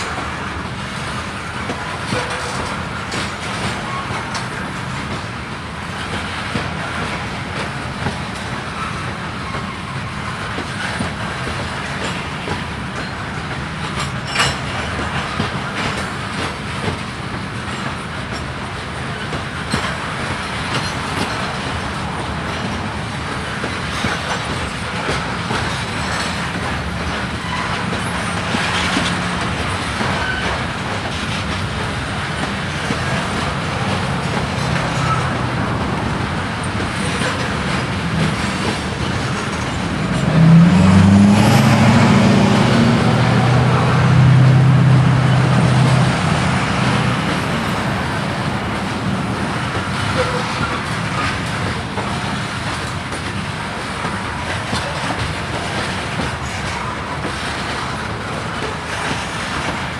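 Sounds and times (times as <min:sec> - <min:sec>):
freight train rolling past: 0:00.0 - 0:59.9
wheels clicking over rail joints: 0:00.0 - 0:59.9.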